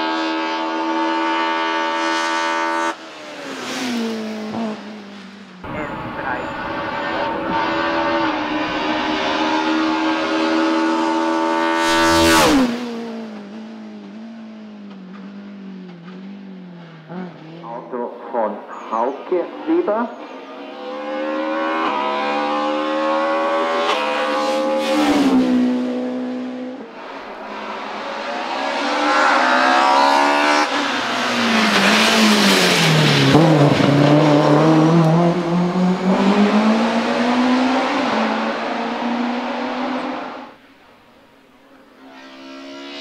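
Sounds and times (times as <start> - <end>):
race car engine accelerating: 0.0 - 40.6, 41.6 - 43.0.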